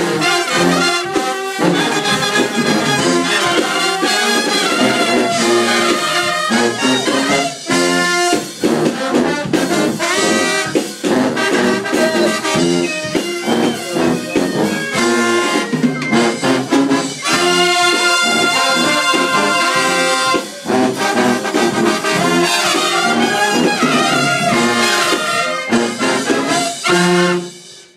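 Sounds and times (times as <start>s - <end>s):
drum kit beat: 0.0s - 27.9s
marching band horns playing: 0.0s - 27.9s.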